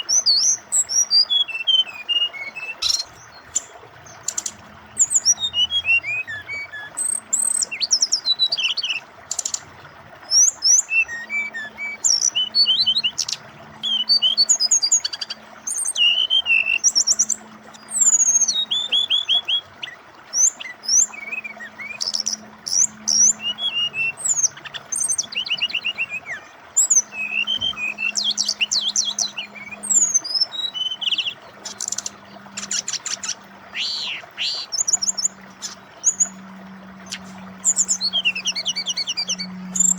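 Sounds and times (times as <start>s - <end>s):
bird singing varied song: 0.0s - 39.9s
flowing water: 0.0s - 39.9s.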